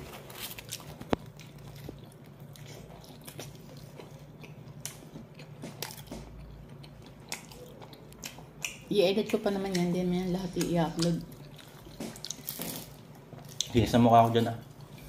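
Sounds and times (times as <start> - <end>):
chewing with soft crunches: 0.1 - 15.0.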